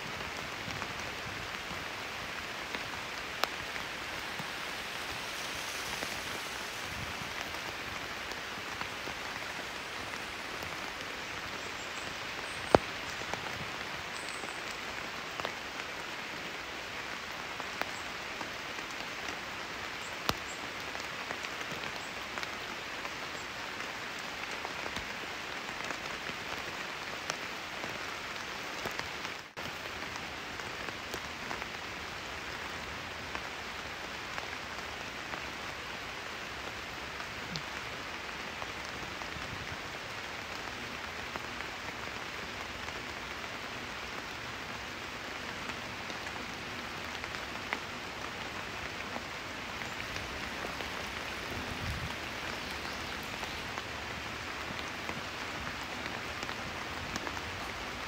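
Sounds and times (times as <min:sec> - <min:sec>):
sharp rain ticks: 0:00.0 - 0:58.0
steady rain on foliage: 0:00.0 - 0:58.0.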